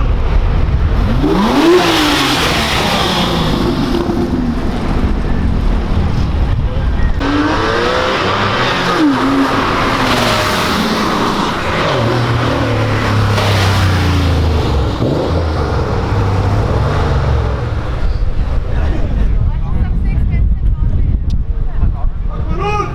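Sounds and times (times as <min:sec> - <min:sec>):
sports car engine revving: 0:00.0 - 0:19.1.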